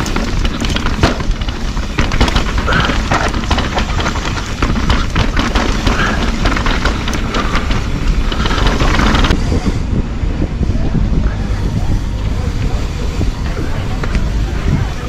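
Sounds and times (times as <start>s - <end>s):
bike rattling over bumps: 0.0s - 15.0s
wind rumble on microphone: 0.0s - 15.0s.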